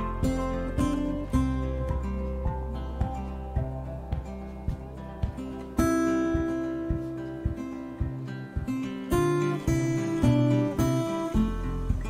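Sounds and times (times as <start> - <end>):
acoustic guitar picking single notes: 0.0 - 12.0.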